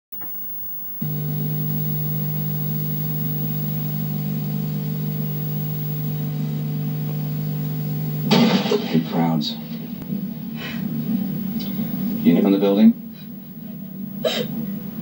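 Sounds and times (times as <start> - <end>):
steady electrical hum: 0.2 - 15.0.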